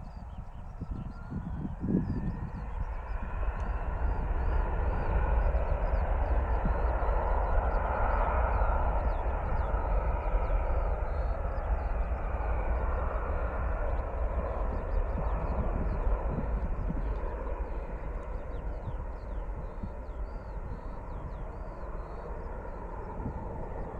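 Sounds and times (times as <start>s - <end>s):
jet engines passing: 0.0s - 23.9s
low rumble: 0.0s - 23.9s.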